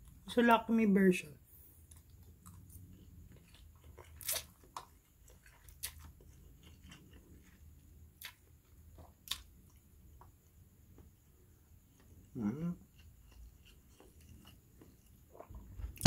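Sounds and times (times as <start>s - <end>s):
person chewing noodles: 1.8s - 15.7s.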